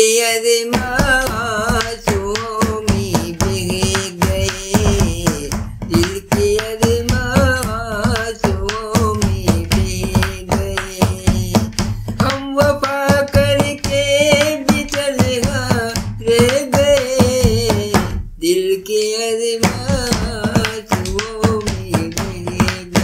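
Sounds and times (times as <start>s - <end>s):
drum beats: 0.7s - 18.5s, 19.6s - 23.0s.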